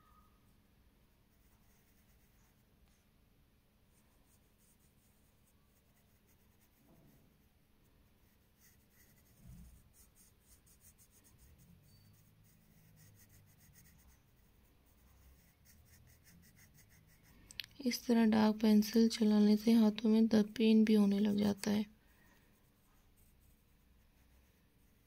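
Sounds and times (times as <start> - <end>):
pencil scratching on paper: 1.3 - 2.6, 4.2 - 7.5, 8.1 - 25.0.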